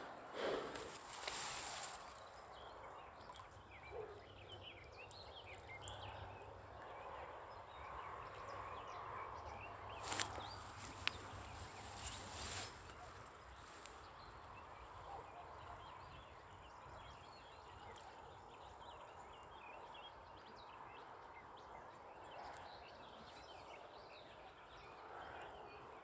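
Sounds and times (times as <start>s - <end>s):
faint birdsong chirps: 0.0s - 26.0s.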